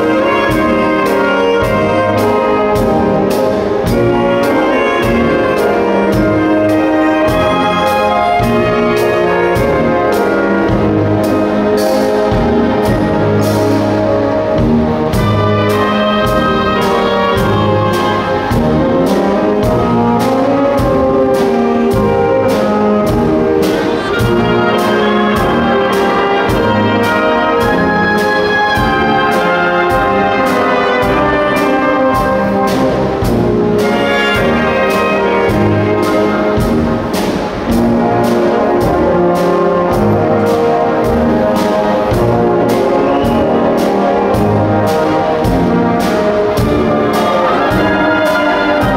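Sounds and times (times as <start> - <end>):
brass instruments: 0.0 - 48.9
drum kit steady beat: 0.0 - 48.9
woodwind instruments: 0.0 - 48.9.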